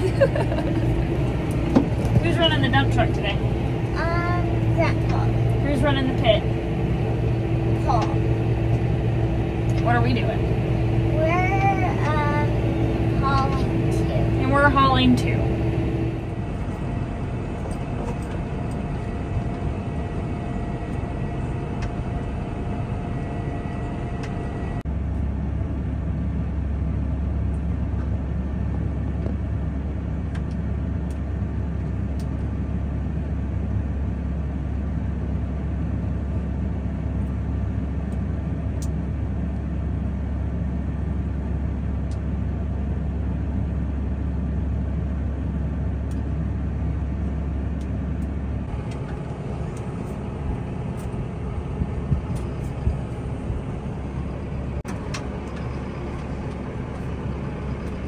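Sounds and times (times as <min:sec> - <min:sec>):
deep low hum: 0:00.0 - 0:58.0
tractor engine running: 0:00.0 - 0:58.0.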